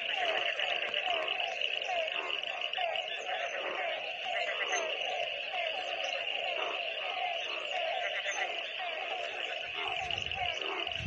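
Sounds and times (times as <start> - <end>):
frogs croaking: 0.0 - 11.0.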